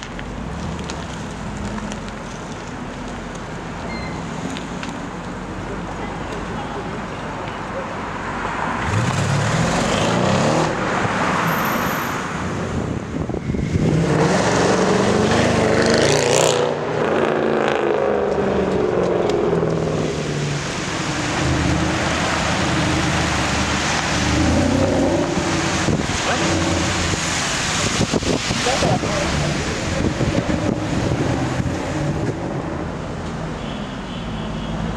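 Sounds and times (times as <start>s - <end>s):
car engines revving: 0.0s - 33.6s.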